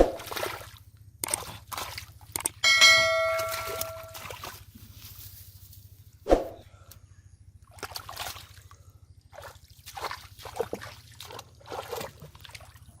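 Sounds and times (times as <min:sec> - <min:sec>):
water splashing and sloshing: 0:00.0 - 0:05.5, 0:07.6 - 0:13.0.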